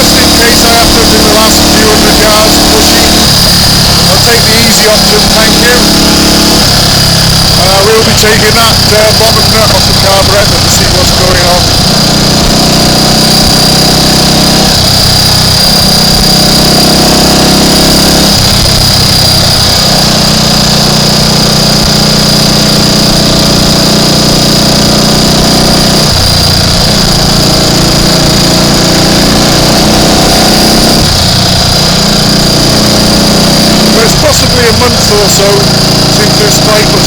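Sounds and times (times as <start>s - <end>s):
single-cylinder engine running: 0.0s - 37.0s.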